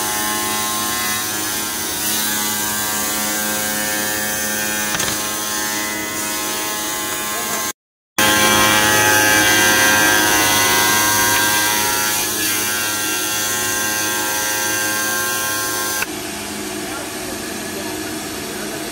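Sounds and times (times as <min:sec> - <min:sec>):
cutting machine humming and whining: 0:00.0 - 0:18.9.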